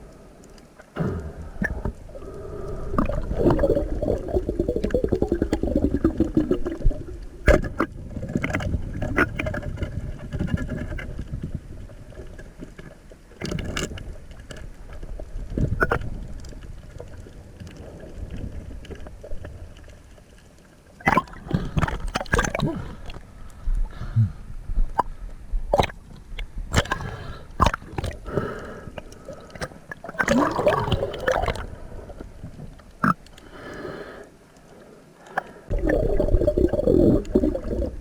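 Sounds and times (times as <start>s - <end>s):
water sloshing and gurgling: 0.0s - 38.0s.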